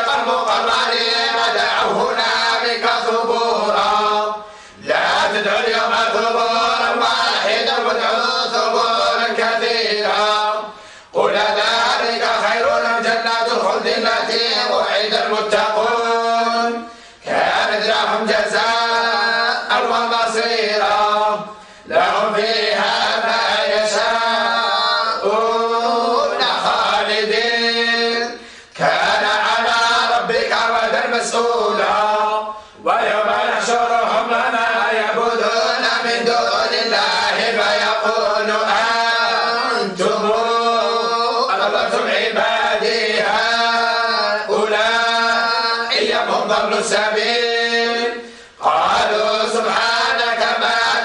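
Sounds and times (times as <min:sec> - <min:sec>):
voices chanting in unison: 0:00.0 - 0:51.0.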